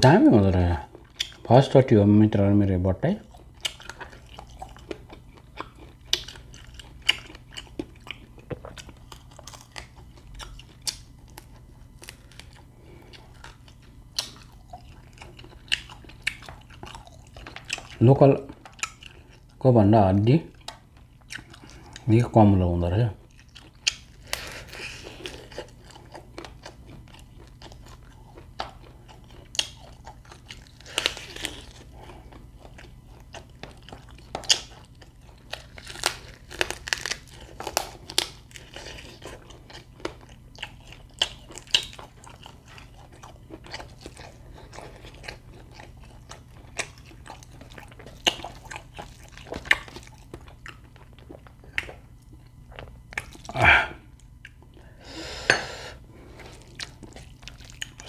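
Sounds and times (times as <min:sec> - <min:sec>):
chewing and crunching bones: 0:00.0 - 0:01.8, 0:03.2 - 0:55.0, 0:56.1 - 0:58.0.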